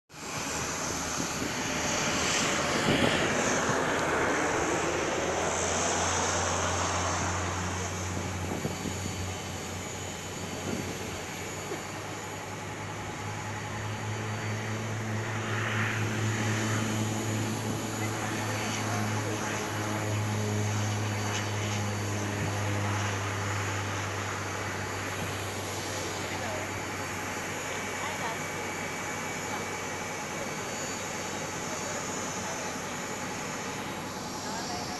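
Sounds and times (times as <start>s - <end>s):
turboprop engines at takeoff power: 0.1s - 34.9s
low hum: 0.2s - 28.7s.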